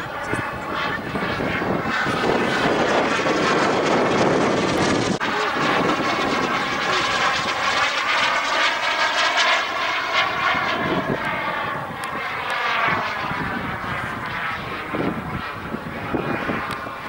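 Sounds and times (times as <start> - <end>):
model jet engine whining overhead: 0.0 - 17.0.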